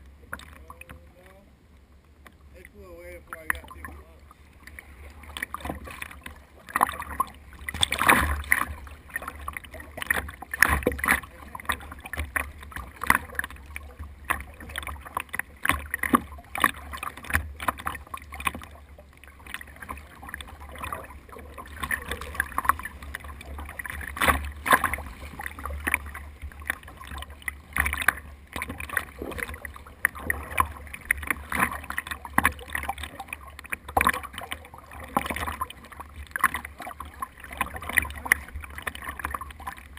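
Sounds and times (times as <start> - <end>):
water splashing around boat: 0.0 - 39.9.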